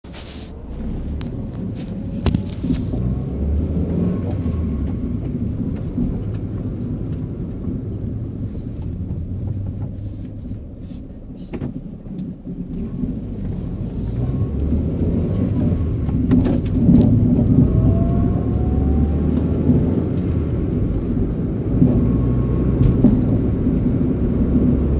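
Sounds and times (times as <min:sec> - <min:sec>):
car road and engine rumble: 0:00.0 - 0:24.9
suspension knocking over bumps: 0:03.9 - 0:10.7, 0:11.3 - 0:24.9.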